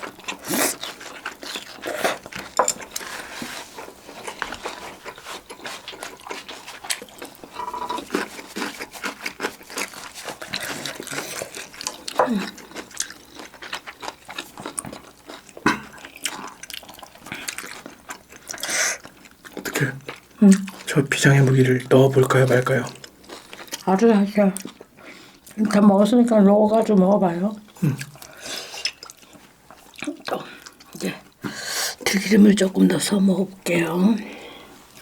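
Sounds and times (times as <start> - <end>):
wet chewing and mouth sounds: 0.0 - 32.4.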